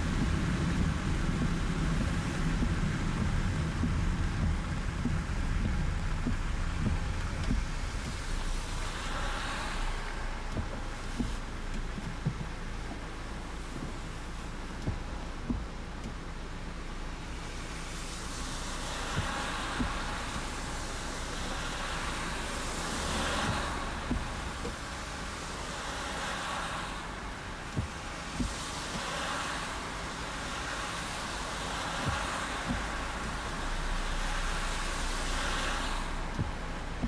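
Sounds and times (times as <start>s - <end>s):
rain and wet tyres hissing: 0.0s - 37.0s.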